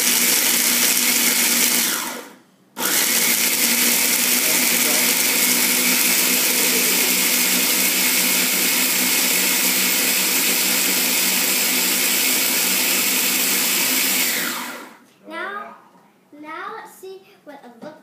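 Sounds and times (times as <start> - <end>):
food processor chopping: 0.0 - 15.0.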